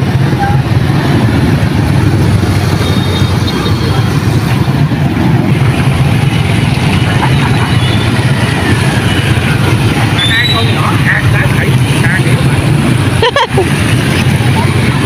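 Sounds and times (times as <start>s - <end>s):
motorbike traffic: 0.0s - 15.0s.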